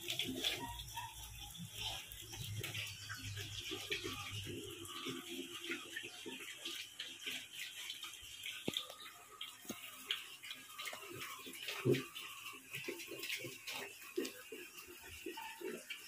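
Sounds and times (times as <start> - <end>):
pigs slurping and chomping: 0.0 - 16.0.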